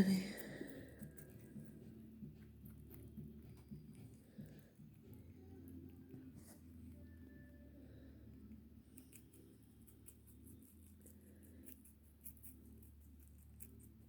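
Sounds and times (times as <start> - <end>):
low steady hum: 0.0 - 14.0
rabbit chewing leaves: 0.0 - 14.0.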